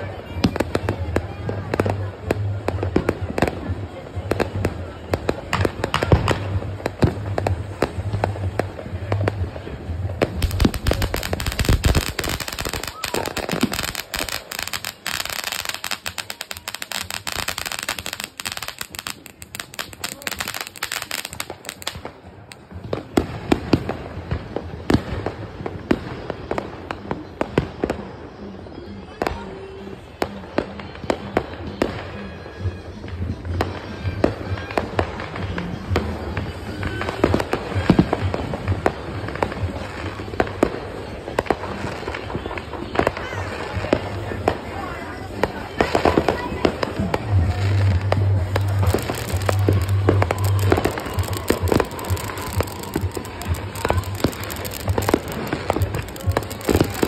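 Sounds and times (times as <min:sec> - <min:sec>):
firework fountain hissing and crackling: 0:00.0 - 0:57.0
firework pops and bangs: 0:00.2 - 0:28.1, 0:33.0 - 0:57.0.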